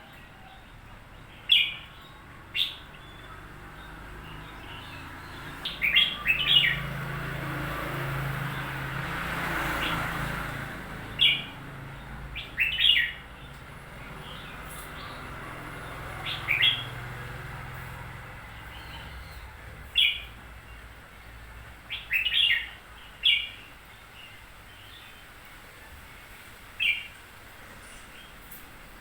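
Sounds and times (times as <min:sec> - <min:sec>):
bird chirping calls: 0:00.0 - 0:25.4, 0:26.8 - 0:28.6.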